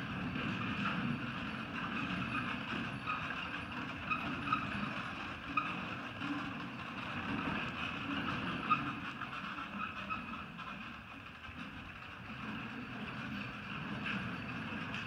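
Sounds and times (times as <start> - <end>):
carriage wheels rumbling and rattling: 0.0 - 15.0.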